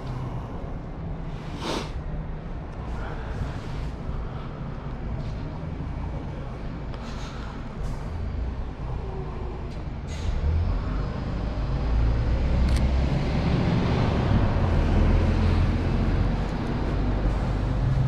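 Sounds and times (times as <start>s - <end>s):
bus engine rumbling: 0.0s - 18.0s.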